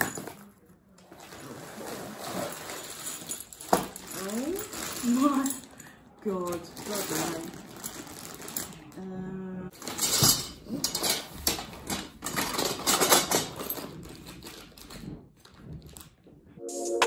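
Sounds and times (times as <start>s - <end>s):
furniture parts and packaging rustling: 0.0s - 9.1s, 9.7s - 16.7s.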